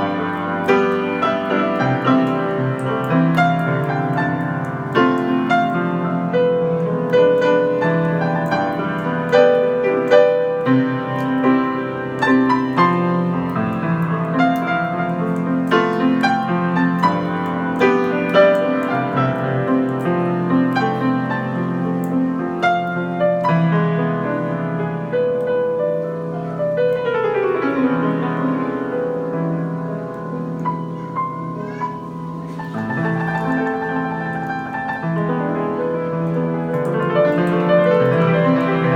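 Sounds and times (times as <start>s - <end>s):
solo grand piano: 0.0s - 38.9s.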